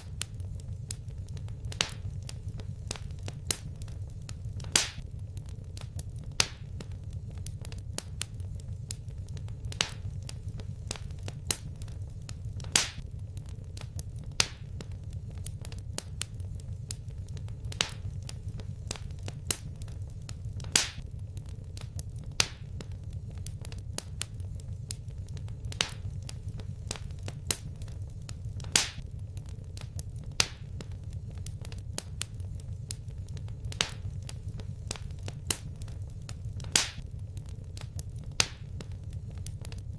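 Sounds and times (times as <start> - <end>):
sharp pops and snaps: 0.0 - 39.9
wood fire crackling: 0.0 - 39.9.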